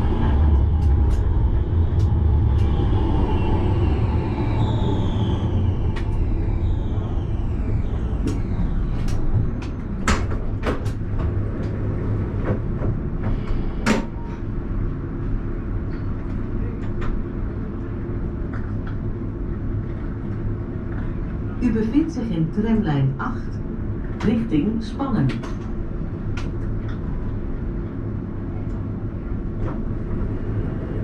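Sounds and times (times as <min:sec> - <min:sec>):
tram hum and rumble: 0:00.0 - 0:31.0.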